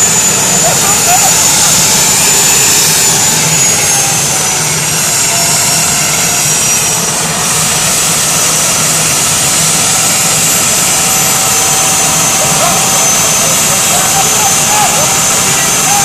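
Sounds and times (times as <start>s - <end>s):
jet engine rushing and whining: 0.0s - 16.0s.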